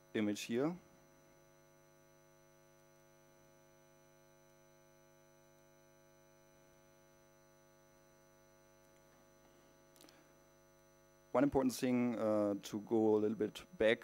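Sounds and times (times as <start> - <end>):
faint mains hum: 0.0 - 14.0.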